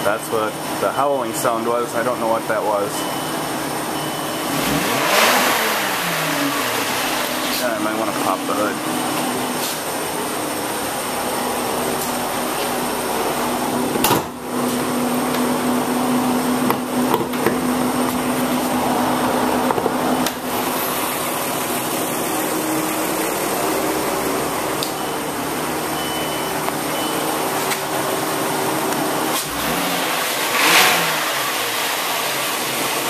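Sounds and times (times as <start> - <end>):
car engine whirring hum: 0.0 - 33.0.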